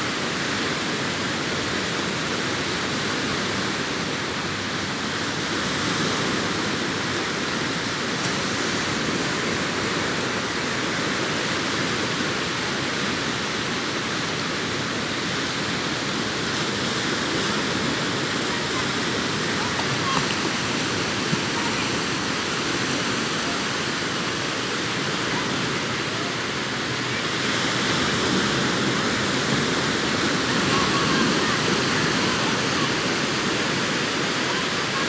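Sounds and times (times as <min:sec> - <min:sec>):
sea surf breaking on beach: 0:00.0 - 0:35.0.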